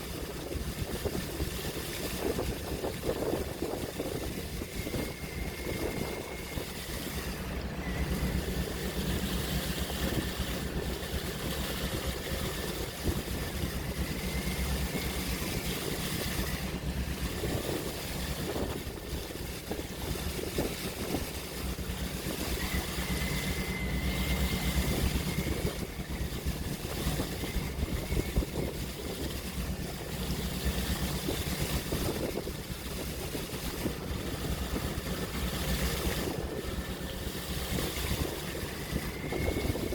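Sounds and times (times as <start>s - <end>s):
constant low hum: 0.0s - 39.9s
sea waves washing: 0.0s - 39.9s
wind: 0.0s - 39.9s.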